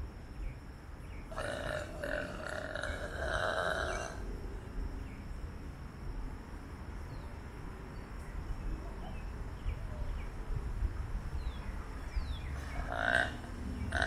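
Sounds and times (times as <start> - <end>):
faint high insect hum: 0.0 - 14.0
steady low rumble: 0.0 - 14.0.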